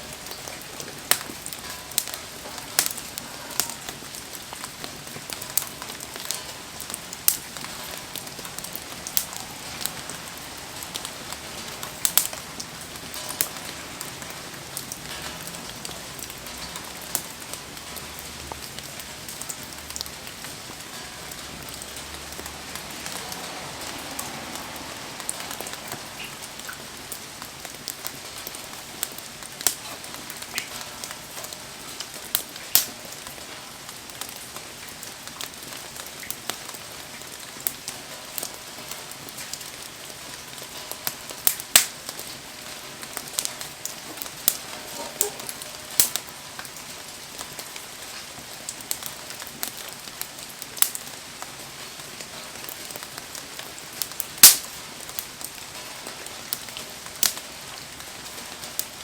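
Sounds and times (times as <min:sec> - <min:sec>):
campfire crackling and popping: 0:00.0 - 0:59.0
rain pattering: 0:00.0 - 0:59.0.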